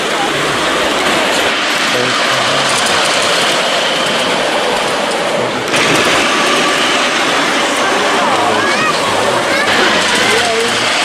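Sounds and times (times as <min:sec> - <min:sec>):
miniature train wheels rolling on rails: 0:00.0 - 0:11.0.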